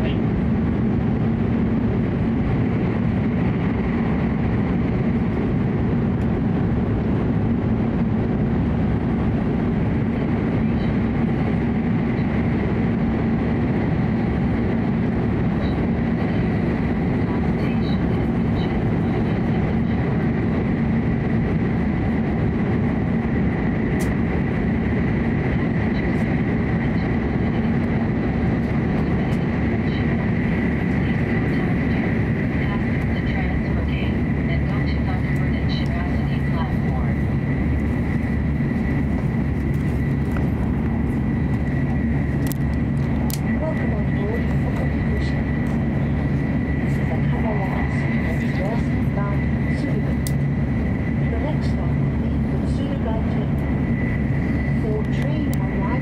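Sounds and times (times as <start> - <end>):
train cabin rumble: 0.0 - 56.0.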